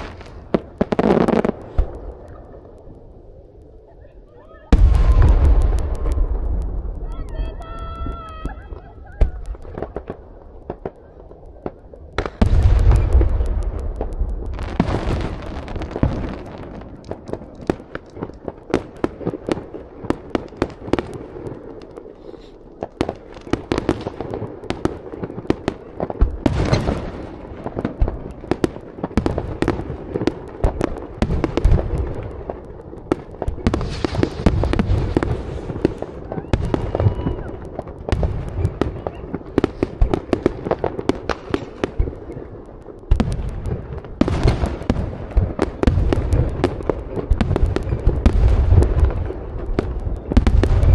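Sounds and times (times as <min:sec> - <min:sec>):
fireworks cracking and crackling: 0:00.0 - 0:50.9
heavy firework bangs: 0:04.7 - 0:10.9, 0:11.6 - 0:42.4, 0:43.1 - 0:50.9.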